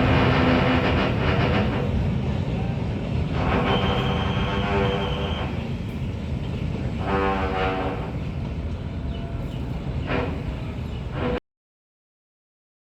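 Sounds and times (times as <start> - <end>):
freight train rolling rumble: 0.0 - 11.4
short pitched train sounds: 0.0 - 11.4.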